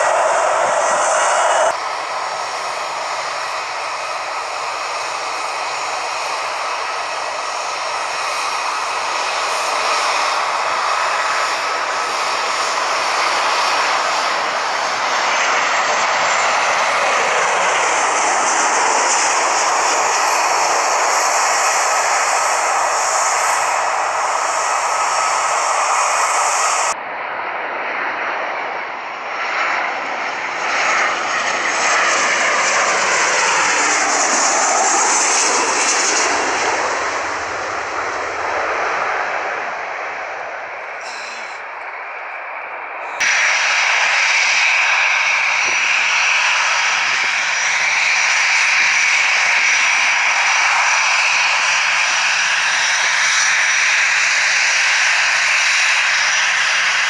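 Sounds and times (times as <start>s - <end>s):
aircraft engines running: 0.0s - 57.0s
aircraft passing: 0.0s - 57.0s.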